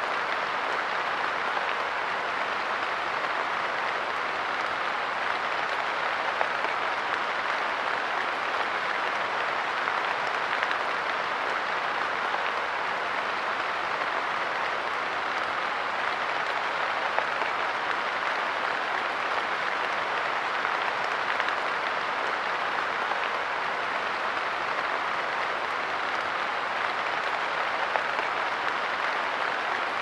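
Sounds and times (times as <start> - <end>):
rain pattering on a bench: 0.0 - 30.0.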